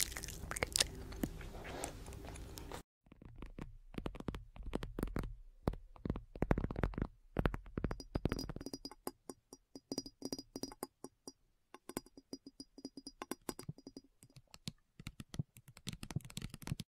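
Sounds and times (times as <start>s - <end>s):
sharp clicks and taps: 3.1s - 16.9s.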